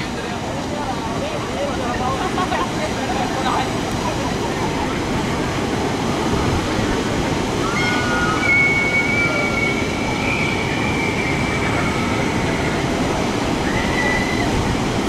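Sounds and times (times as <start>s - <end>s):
water rushing down channel: 0.0s - 15.0s.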